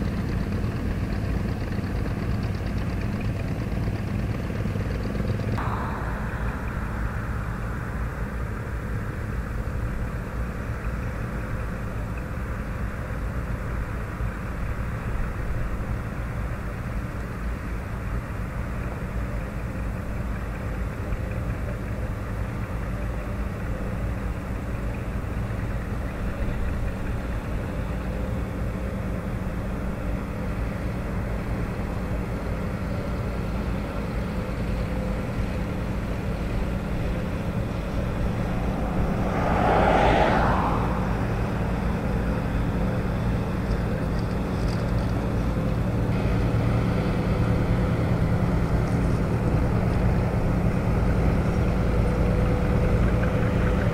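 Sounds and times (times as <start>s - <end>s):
tractor engines running: 0.0s - 53.9s.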